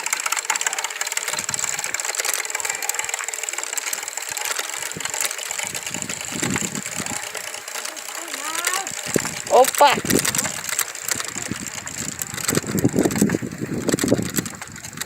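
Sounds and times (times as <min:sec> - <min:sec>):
bicycle spokes clicking rattle: 0:00.0 - 0:15.0.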